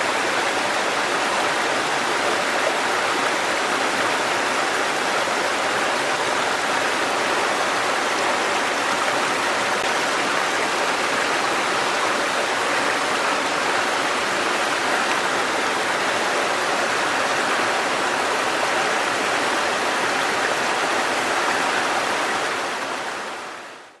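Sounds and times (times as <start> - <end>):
stream rushing water: 0.0 - 24.0.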